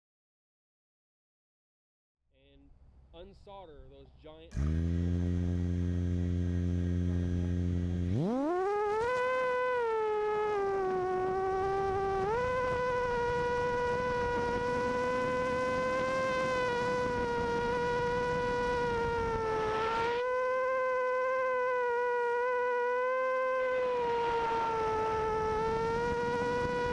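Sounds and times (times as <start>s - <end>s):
drone motors buzzing whine: 4.5s - 26.9s.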